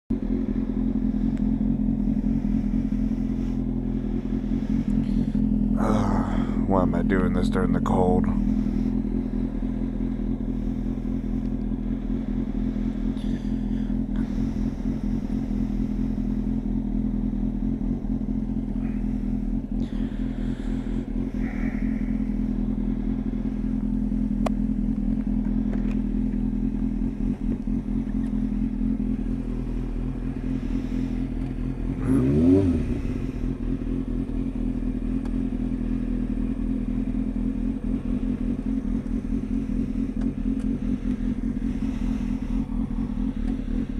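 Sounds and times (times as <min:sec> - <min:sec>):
engine revving: 0:00.1 - 0:43.9
motorcycle engine idling: 0:00.1 - 0:43.9.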